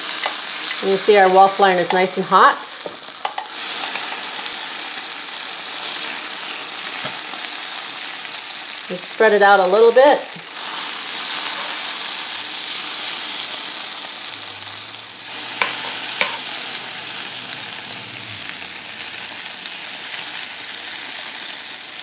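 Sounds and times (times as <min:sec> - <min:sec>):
batter sizzling in waffle iron: 0:00.0 - 0:22.0.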